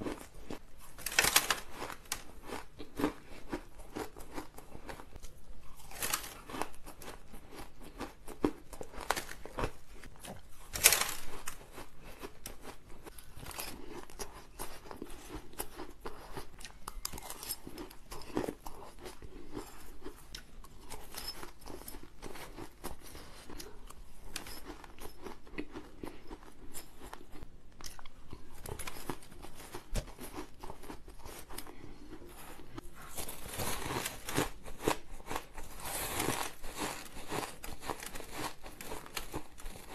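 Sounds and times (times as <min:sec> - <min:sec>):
ice being chewed crunching: 0:00.0 - 0:39.9.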